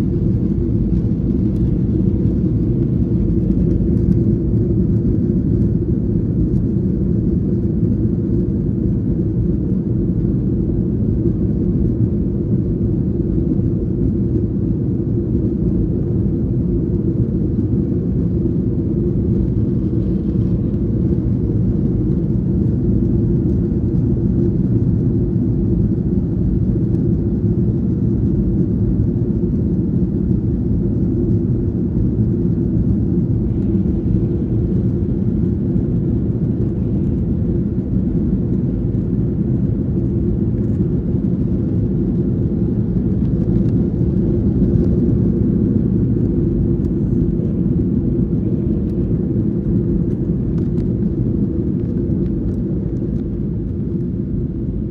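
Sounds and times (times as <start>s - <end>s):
jet airliner cabin drone: 0.0s - 54.9s.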